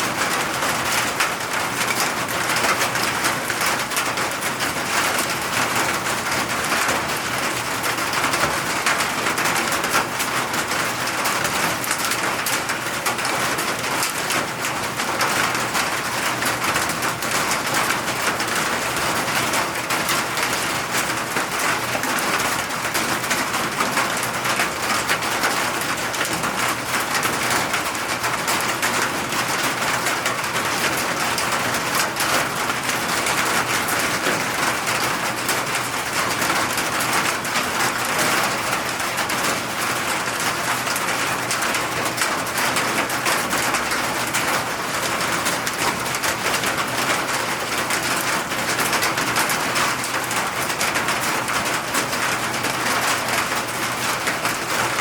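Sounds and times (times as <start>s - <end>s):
steady rain pattering: 0.0s - 55.0s.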